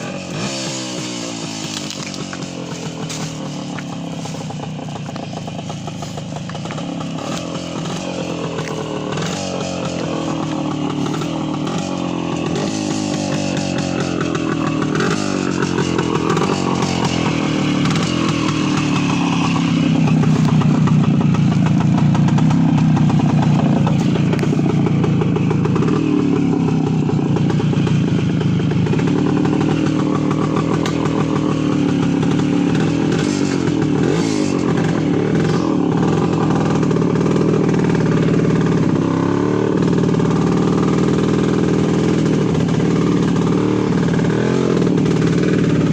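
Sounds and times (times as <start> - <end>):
motorcycle two-stroke engine running: 0.0 - 45.9.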